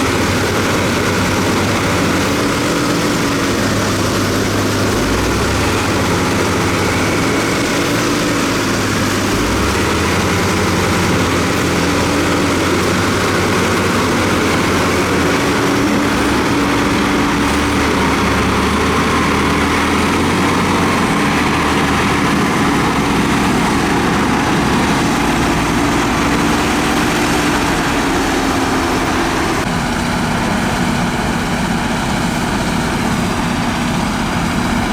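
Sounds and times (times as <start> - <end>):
heavy machinery diesel engines: 0.0 - 34.9.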